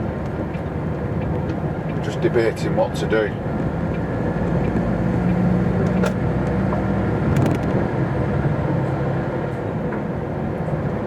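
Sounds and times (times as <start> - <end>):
truck diesel engine hum: 0.0 - 11.0.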